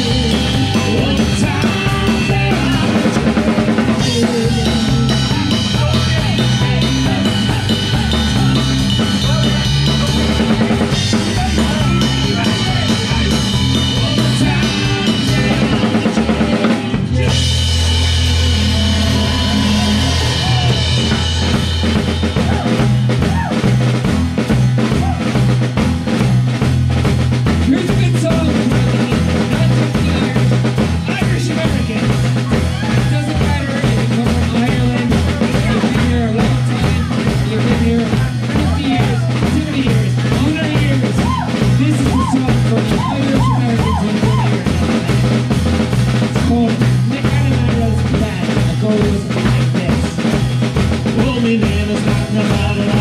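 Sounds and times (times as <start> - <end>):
drum beat with kick and snare: 0.0 - 53.0
live band playing: 0.0 - 53.0.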